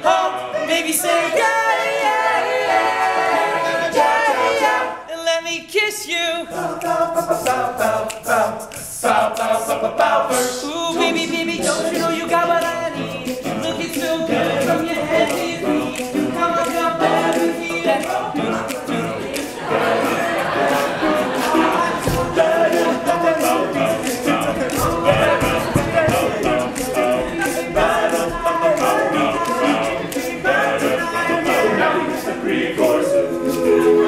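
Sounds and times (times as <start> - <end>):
male group singing a cappella: 0.0 - 34.0.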